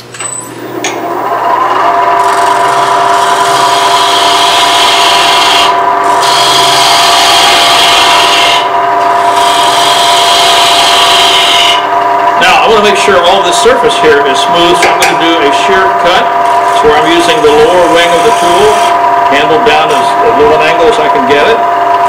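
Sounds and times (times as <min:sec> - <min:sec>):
lathe hum: 0:00.0 - 0:22.0
gouge scraping wood on lathe: 0:02.2 - 0:22.0.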